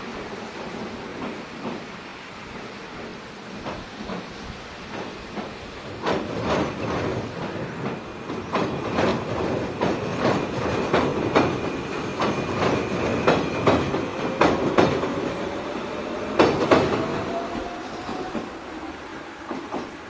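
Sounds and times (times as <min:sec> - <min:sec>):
train rumble on steel bridge: 0:00.0 - 0:20.0
train wheels clacking over rail joints: 0:00.5 - 0:18.6, 0:19.4 - 0:20.0.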